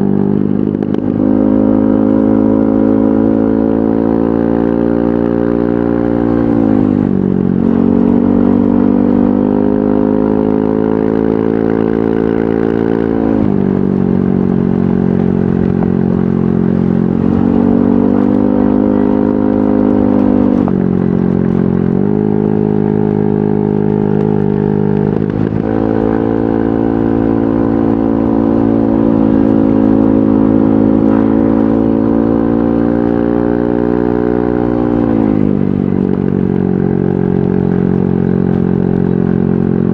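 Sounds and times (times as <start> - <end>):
scooter engine revving: 5.8 - 39.9.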